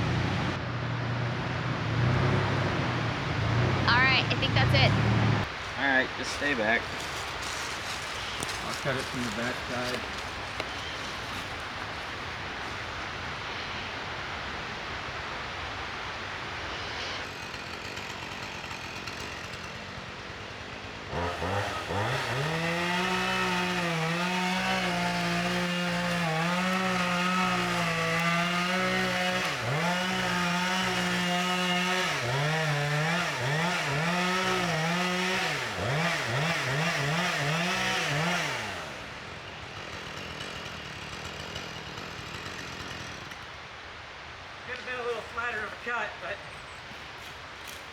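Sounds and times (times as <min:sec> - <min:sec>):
chainsaw cutting: 0:03.4 - 0:12.9, 0:16.7 - 0:46.0, 0:46.8 - 0:47.9.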